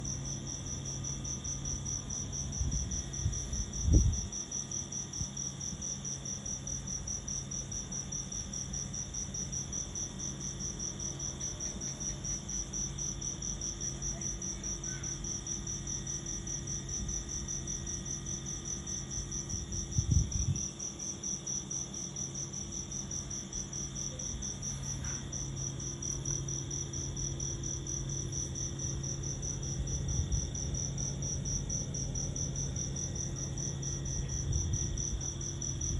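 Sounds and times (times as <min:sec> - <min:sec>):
cricket chirping: 0:00.0 - 0:35.9.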